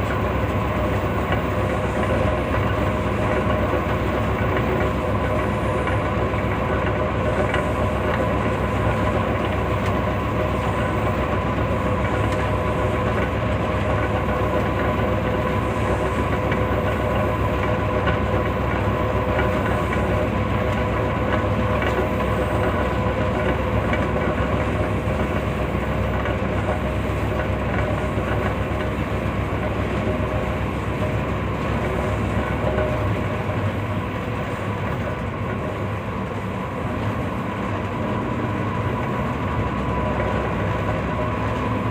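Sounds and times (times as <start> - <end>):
train rumbling along track: 0.0 - 41.9.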